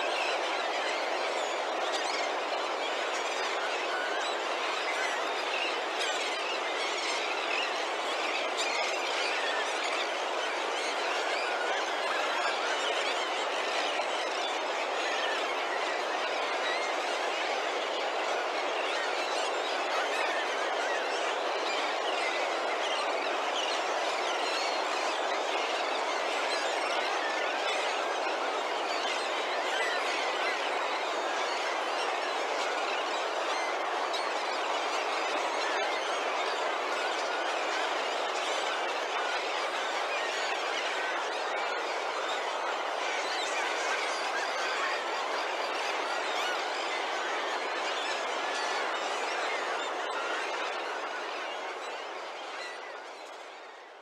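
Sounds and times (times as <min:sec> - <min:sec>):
flock of seabirds calling: 0:00.0 - 0:54.0.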